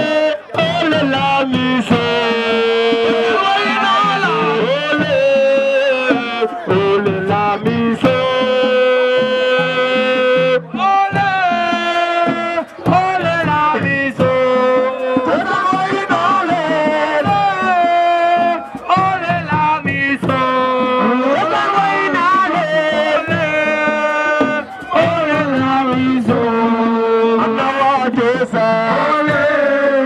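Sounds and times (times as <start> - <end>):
drum beat: 0.0 - 30.0.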